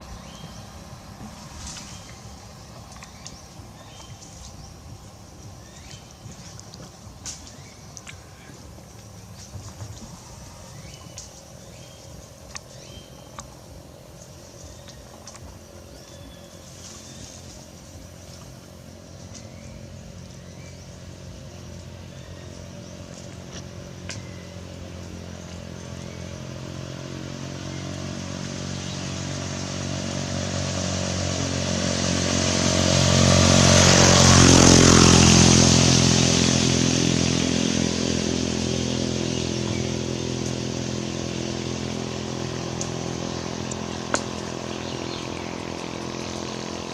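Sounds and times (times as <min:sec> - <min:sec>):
vehicle engine passing by: 0:00.0 - 0:46.9.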